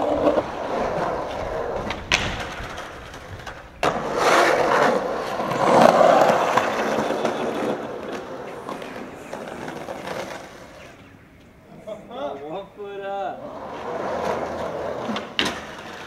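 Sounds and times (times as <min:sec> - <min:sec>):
skateboard clack: 0:00.0 - 0:11.5, 0:13.4 - 0:16.0
skateboard wheels rolling on pavement: 0:00.0 - 0:16.0.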